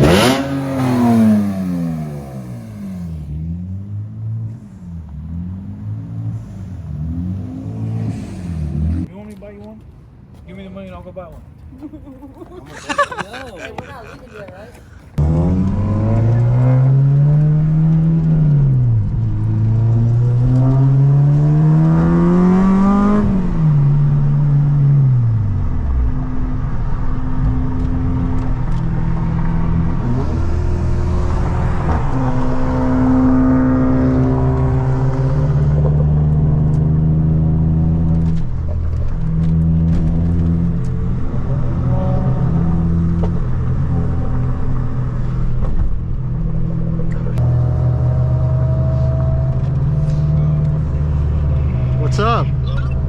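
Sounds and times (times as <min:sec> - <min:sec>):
car cruising hum: 0:00.0 - 0:09.1, 0:12.8 - 0:53.0
car engine revving: 0:00.0 - 0:09.1, 0:15.2 - 0:53.0.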